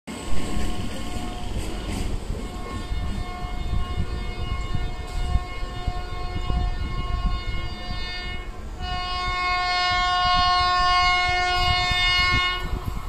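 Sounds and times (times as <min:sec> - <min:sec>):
electric locomotive horn blasts: 0:00.2 - 0:13.0.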